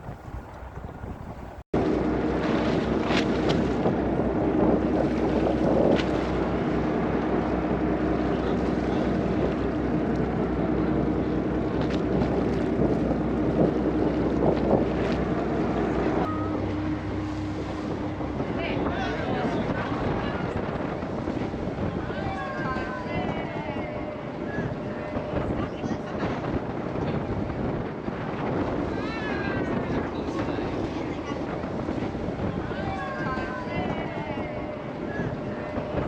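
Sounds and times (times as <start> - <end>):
engine droning hum: 0.0 - 36.0
wind buffeting microphone: 0.0 - 36.0.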